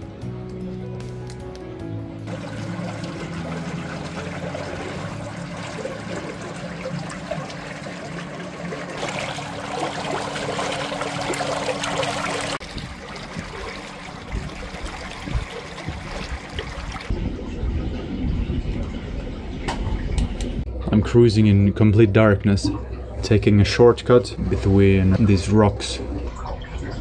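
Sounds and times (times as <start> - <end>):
water splashing along a hull: 2.2 - 20.8, 22.7 - 27.0.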